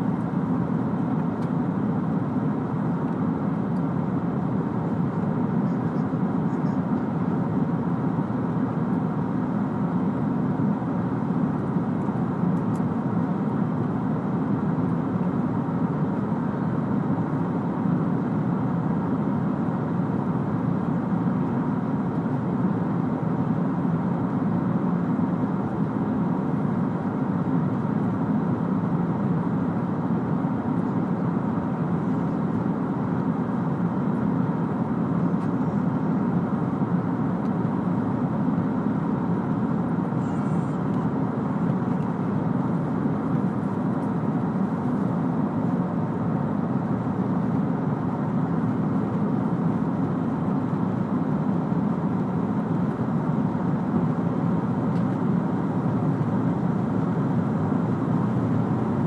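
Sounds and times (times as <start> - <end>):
airplane cabin rumbling hiss: 0.0 - 59.0.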